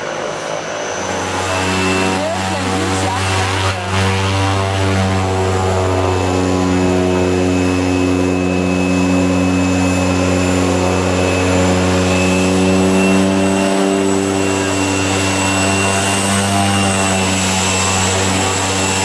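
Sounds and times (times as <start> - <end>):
aircraft engines humming and whining: 0.0 - 19.0.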